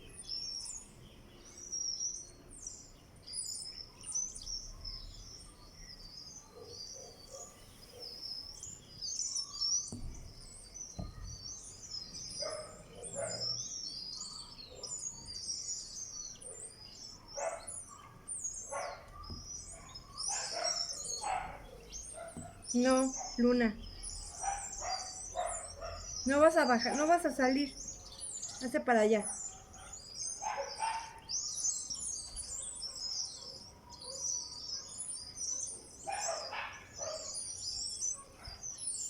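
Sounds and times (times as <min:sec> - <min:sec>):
small birds chirping chorus: 0:00.0 - 0:39.0.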